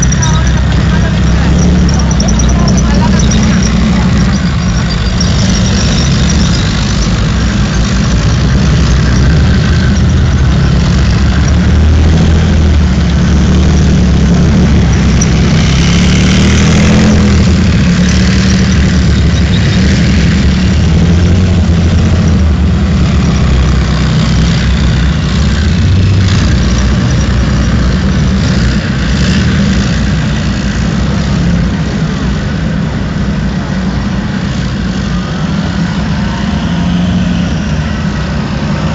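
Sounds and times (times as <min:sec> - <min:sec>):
heavy engines running: 0:00.0 - 0:38.9
tracked vehicles driving past: 0:00.0 - 0:38.9.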